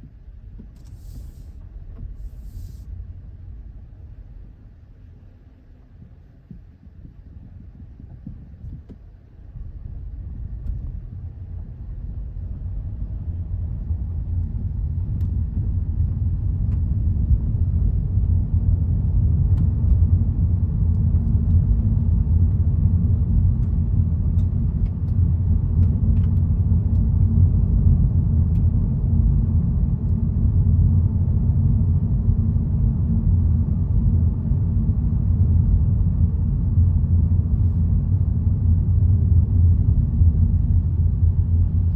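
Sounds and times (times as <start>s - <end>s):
car road rumble: 0.0s - 41.9s.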